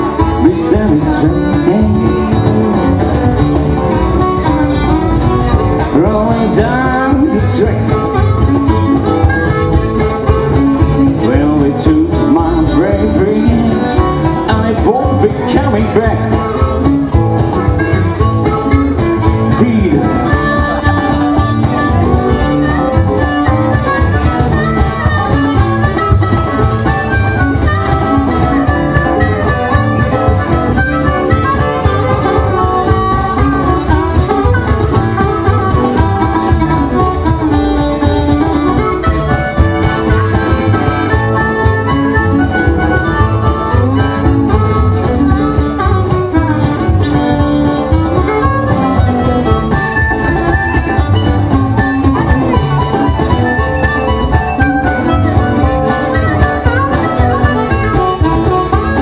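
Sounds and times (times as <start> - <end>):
harmonica playing lead: 0.0 - 59.0
plucked double bass: 0.0 - 59.0
strummed acoustic guitar: 0.0 - 59.0.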